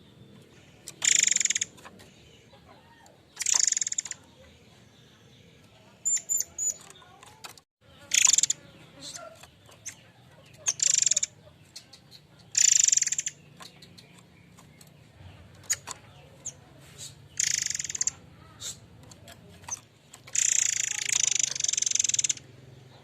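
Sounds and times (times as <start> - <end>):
bird harsh buzzy rattling calls: 0.0 - 2.5, 3.3 - 4.3, 6.0 - 23.0
bird short sharp chips: 0.4 - 4.4, 6.0 - 23.0.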